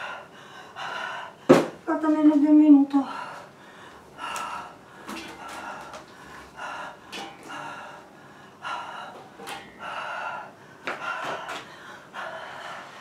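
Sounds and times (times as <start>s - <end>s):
woman breathing hard: 0.0s - 1.6s, 3.0s - 13.0s.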